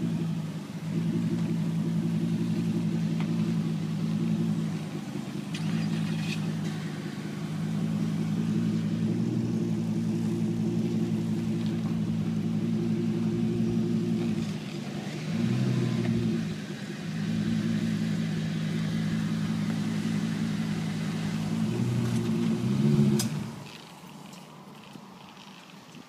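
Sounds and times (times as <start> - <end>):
pickup engine idling: 0.0 - 25.4.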